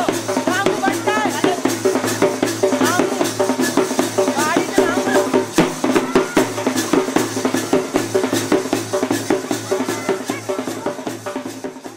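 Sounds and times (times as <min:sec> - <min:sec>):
drums beaten with sticks: 0:00.0 - 0:11.9.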